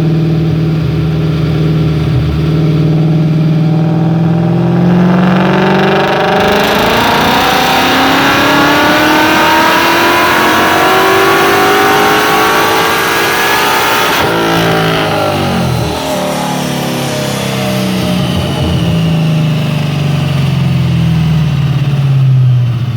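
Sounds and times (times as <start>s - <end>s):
car engine revving at full throttle: 0.0s - 22.9s.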